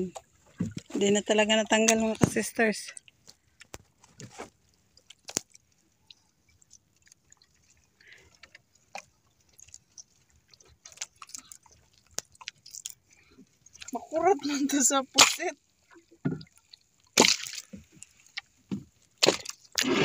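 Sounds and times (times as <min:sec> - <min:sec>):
light water sounds: 0:00.0 - 0:20.0.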